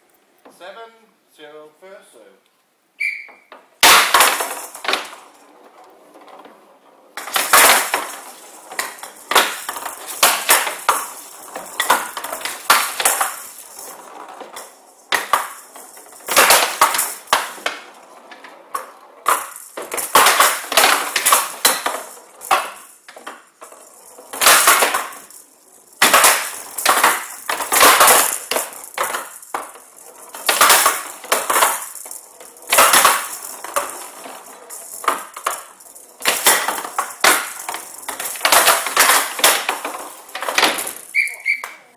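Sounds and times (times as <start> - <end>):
rattling ball hit with wooden bats: 3.0 - 5.4, 7.2 - 23.6, 24.3 - 25.4, 26.0 - 41.9
ball clacking off table sidewalls: 3.1 - 41.9.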